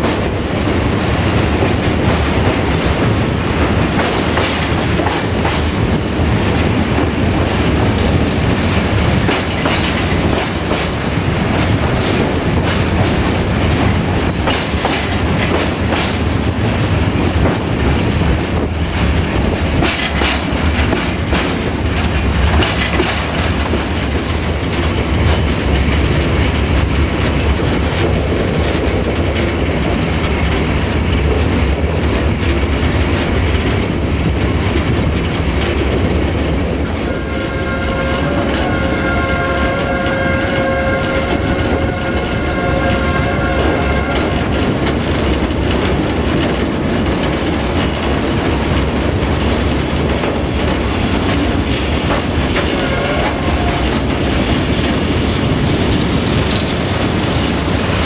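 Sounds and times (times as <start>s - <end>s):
heavy train rumble: 0.0s - 58.0s
train wheels clattering over rail joints: 0.0s - 58.0s.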